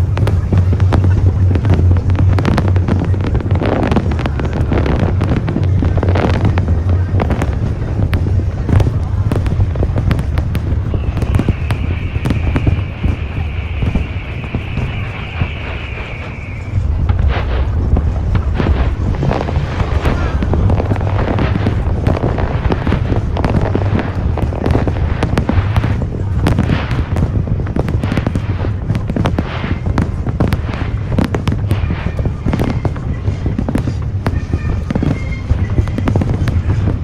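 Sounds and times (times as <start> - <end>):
fireworks bangs and crackles: 0.0 - 37.0
low rumble: 0.0 - 37.0.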